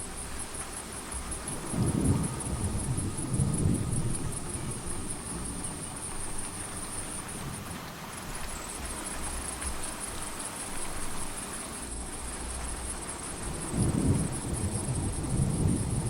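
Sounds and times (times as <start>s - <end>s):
crickets chirring: 0.0s - 16.0s
steady rain: 0.0s - 16.0s.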